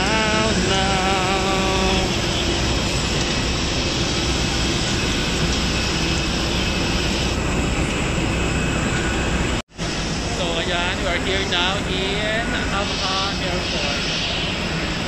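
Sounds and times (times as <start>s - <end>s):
faint high whine: 0.0s - 15.0s
jet aircraft roar: 0.0s - 15.0s.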